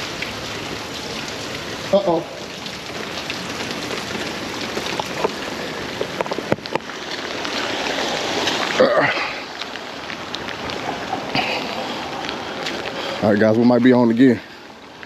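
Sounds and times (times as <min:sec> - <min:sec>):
raindrops ticking on microphone: 0:00.0 - 0:15.0
steady rain falling: 0:00.0 - 0:15.0.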